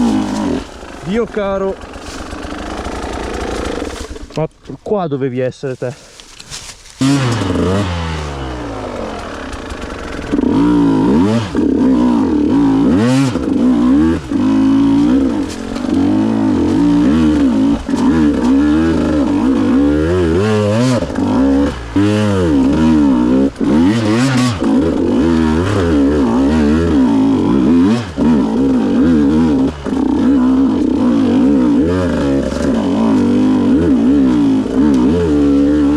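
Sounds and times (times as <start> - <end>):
motorcycle engine revving: 0.0 - 4.6, 6.1 - 35.9.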